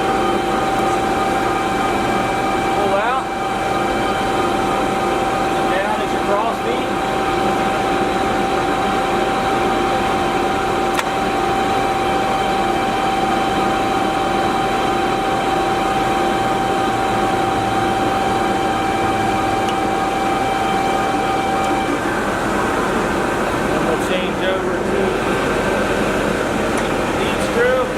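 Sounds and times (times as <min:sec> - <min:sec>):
lathe spindle whine: 0:00.0 - 0:27.9.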